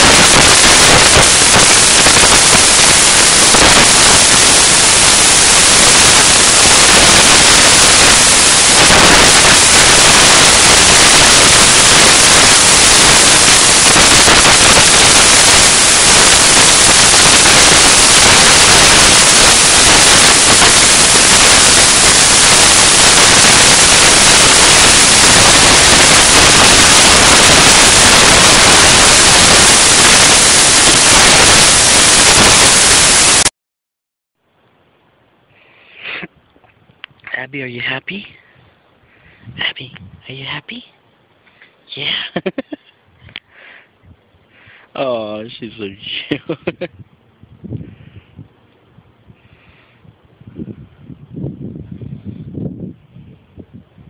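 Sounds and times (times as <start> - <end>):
loud static hiss: 0.0 - 33.6, 34.4 - 54.0.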